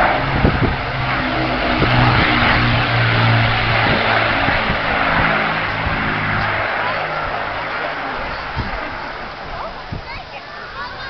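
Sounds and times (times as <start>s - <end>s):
aircraft piston engines droning: 0.0s - 11.0s
loud rushing noise: 0.0s - 11.0s.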